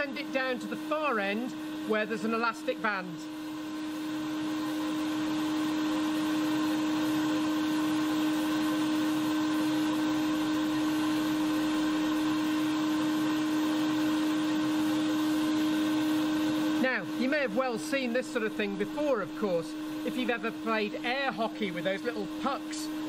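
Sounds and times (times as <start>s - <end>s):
air blower humming: 0.0s - 23.0s.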